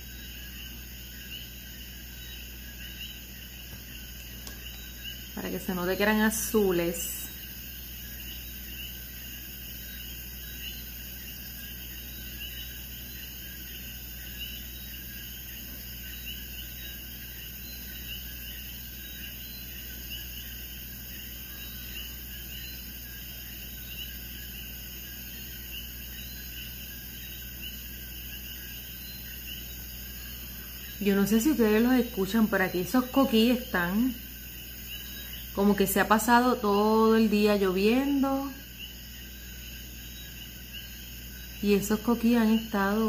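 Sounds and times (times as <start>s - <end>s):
frogs chirping: 0.0s - 43.0s.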